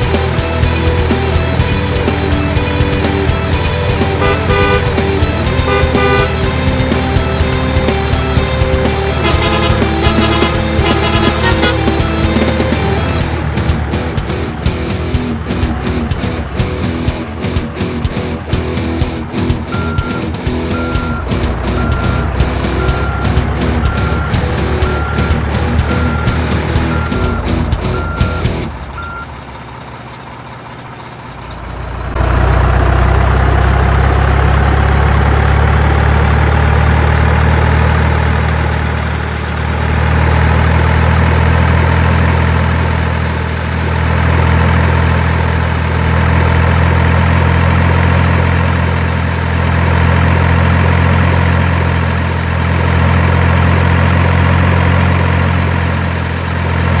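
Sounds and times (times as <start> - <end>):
heavy vehicle engine idling: 0.0 - 57.0.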